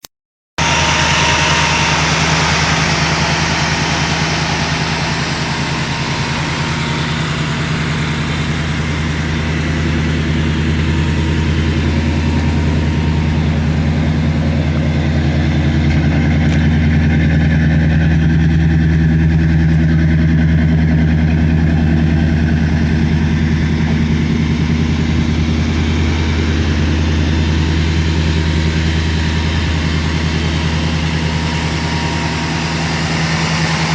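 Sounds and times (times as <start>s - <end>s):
car engine idling: 0.6s - 33.9s.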